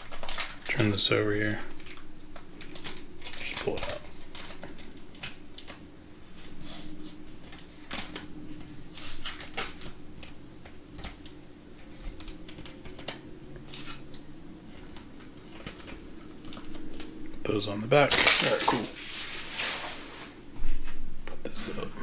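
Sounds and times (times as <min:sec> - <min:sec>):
trading cards shuffling: 0:00.0 - 0:17.2, 0:18.0 - 0:20.4.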